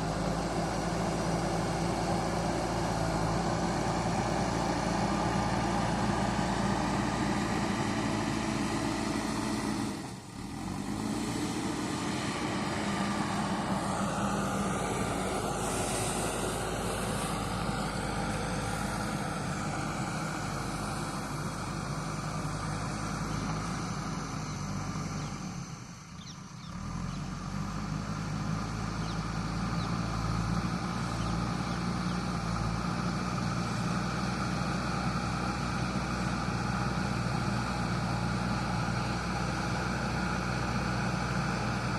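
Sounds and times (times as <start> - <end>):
backhoe diesel engine running: 0.0 - 41.9.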